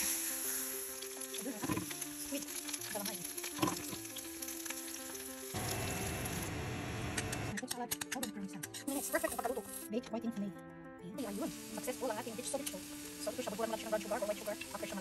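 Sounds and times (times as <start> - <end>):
soft background music: 0.0 - 5.6, 7.5 - 15.0
food sizzling in a pan: 0.0 - 7.4, 8.9 - 9.9, 11.2 - 15.0.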